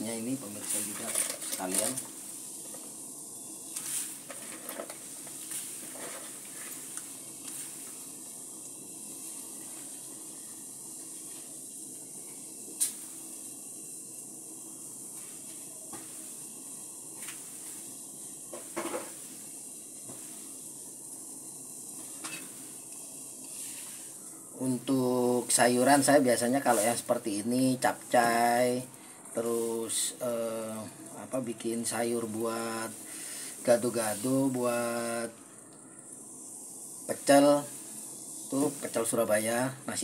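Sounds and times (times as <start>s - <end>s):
gas burner flame hiss: 0.0s - 40.0s.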